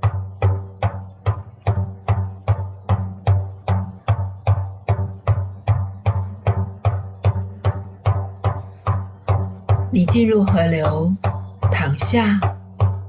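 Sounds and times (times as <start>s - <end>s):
hand drum steady beats: 0.0s - 13.0s.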